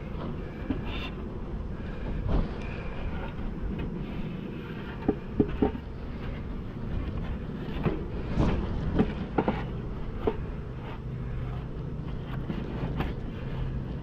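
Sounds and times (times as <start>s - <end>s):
low hum: 0.0s - 14.0s
wind noise on microphone: 0.0s - 14.0s.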